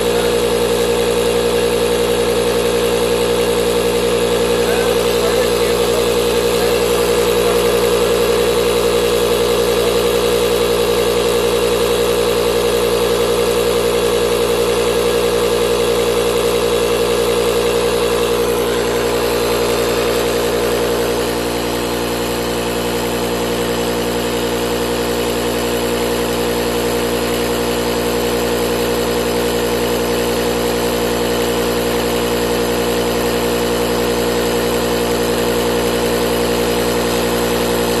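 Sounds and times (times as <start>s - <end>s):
electric inflator pump droning: 0.0s - 38.0s.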